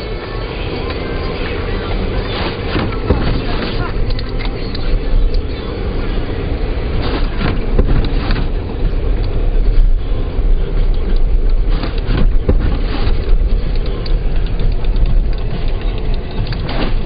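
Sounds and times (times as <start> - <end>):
car cabin low rumble: 0.0 - 17.0.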